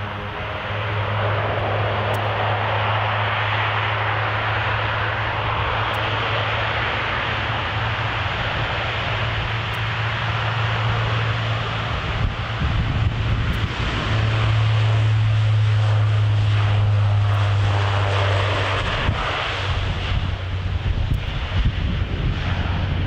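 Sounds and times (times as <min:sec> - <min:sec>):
deep propeller hum: 0:00.0 - 0:23.0
rushing engine noise: 0:00.0 - 0:23.0.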